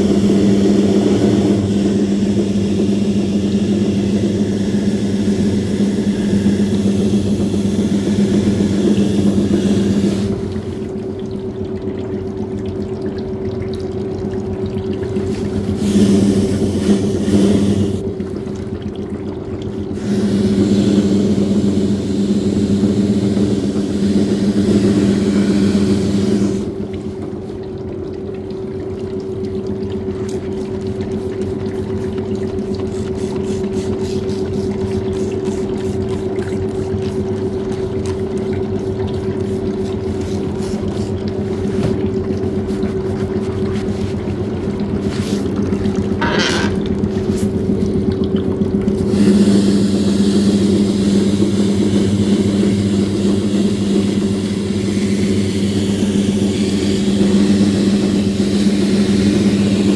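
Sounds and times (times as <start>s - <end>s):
washing machine motor hum: 0.0s - 59.9s
water rushing in: 0.0s - 59.9s.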